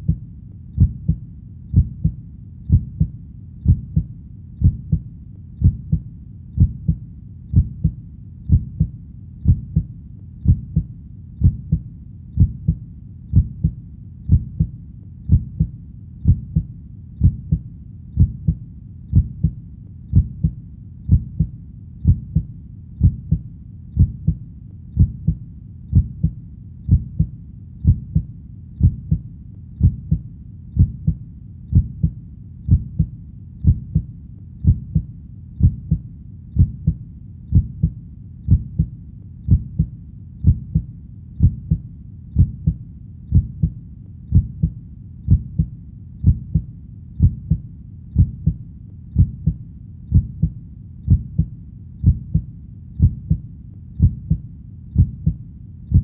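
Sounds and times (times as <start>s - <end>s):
heartbeat double thumps: 0.0s - 56.0s.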